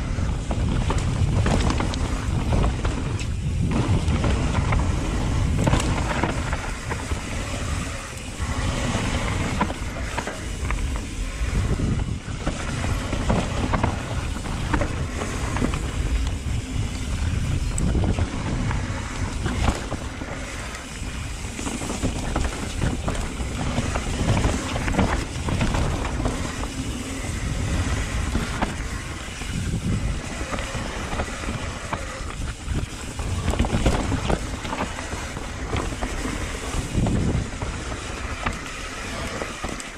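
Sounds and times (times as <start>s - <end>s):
bike knocks and rattles: 0.0s - 39.9s
tyres rushing on dirt: 0.0s - 39.9s
wind buffeting microphone: 0.0s - 39.9s.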